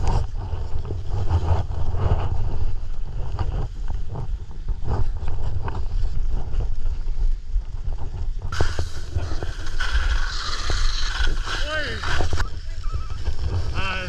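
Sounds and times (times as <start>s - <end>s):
skis scraping over snow: 0.0s - 14.0s
wind buffeting microphone: 0.0s - 14.0s.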